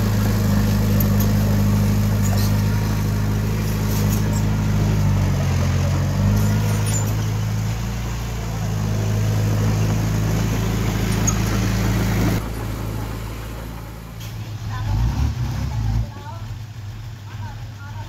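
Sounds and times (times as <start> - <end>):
diesel engine of heavy machinery: 0.0 - 18.0.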